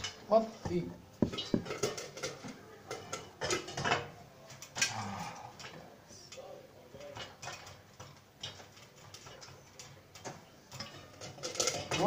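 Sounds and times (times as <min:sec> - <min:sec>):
popcorn popping in a pot: 0:00.0 - 0:05.0, 0:05.6 - 0:12.0.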